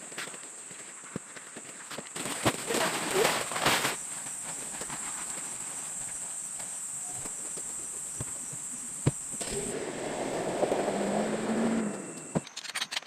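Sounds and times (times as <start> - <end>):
insects droning: 0.0 - 13.0
rustling: 0.2 - 13.0.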